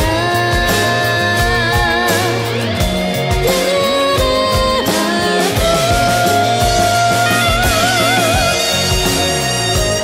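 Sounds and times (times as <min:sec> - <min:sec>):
band music with steady beat: 0:00.0 - 0:10.0.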